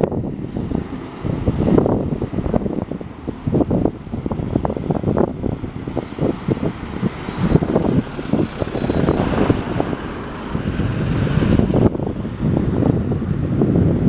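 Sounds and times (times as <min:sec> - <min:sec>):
wind buffeting microphone: 0:00.0 - 0:14.0
vehicle passing: 0:00.2 - 0:13.9.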